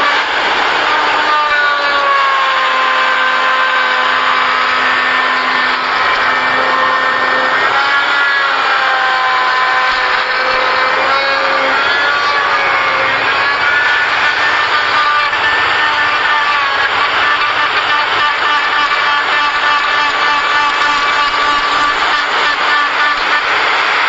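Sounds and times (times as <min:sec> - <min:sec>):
power tool whining on wood: 0:00.0 - 0:24.0.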